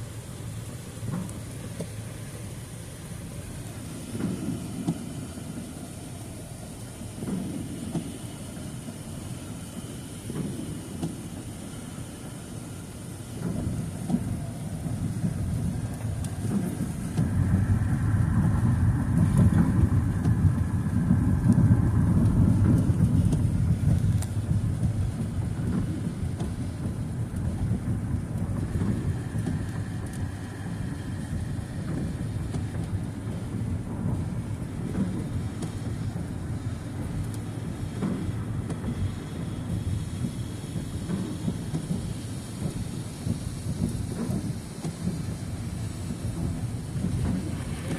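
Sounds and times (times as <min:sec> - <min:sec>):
car driving on wet road: 0:00.0 - 0:47.9.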